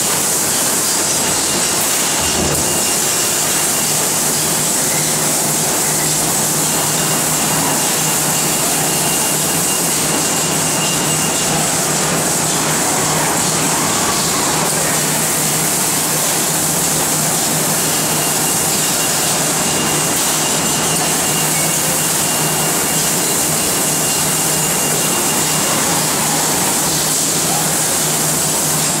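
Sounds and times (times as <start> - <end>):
loud machine hiss: 0.0 - 29.0.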